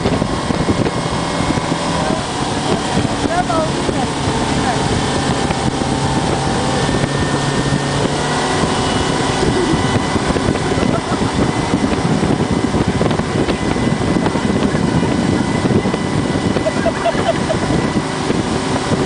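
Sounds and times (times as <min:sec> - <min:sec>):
churning wake rushing: 0:00.0 - 0:19.0
outboard engine running: 0:00.0 - 0:19.0
wind buffeting microphone: 0:00.0 - 0:19.0.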